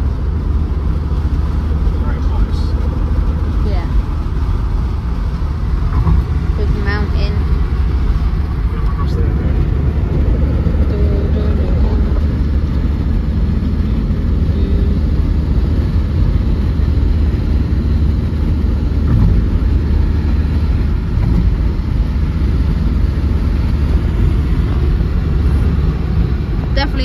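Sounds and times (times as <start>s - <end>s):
van engine and tyre rumble: 0.0s - 27.0s.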